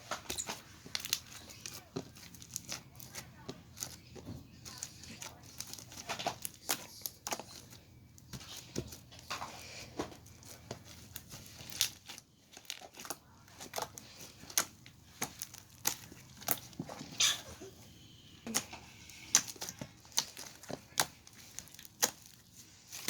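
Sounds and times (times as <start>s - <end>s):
crinkling and crackling by hand: 0.0s - 23.0s.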